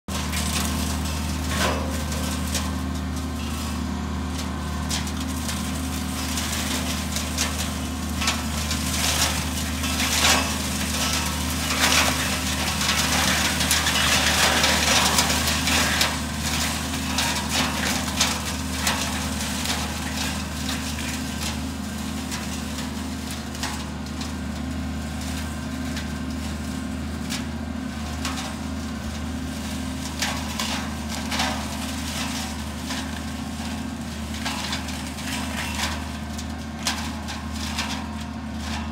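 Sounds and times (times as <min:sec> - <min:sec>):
tractor engine running: 0:00.0 - 0:38.9
hedge cutter crackling through branches: 0:00.1 - 0:38.9.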